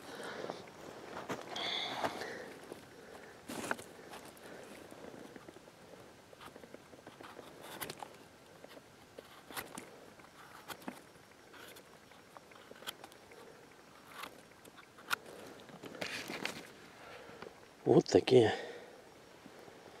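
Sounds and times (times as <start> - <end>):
rustling of pine needles and twigs: 0.0 - 17.5.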